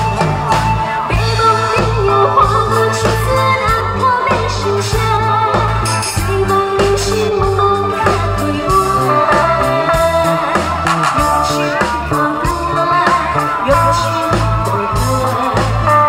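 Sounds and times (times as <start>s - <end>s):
loud backing music with bass: 0.0s - 16.0s
woman singing into microphone: 0.0s - 16.0s.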